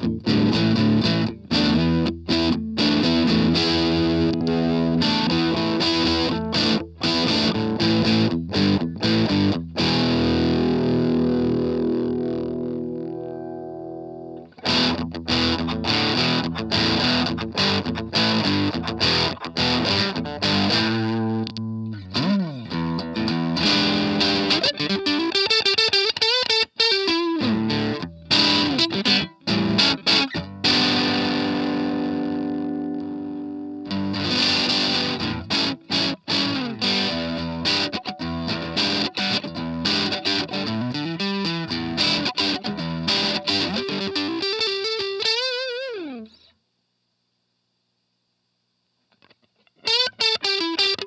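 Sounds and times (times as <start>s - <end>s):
distorted electric guitar: 0.0s - 46.5s, 49.1s - 51.0s.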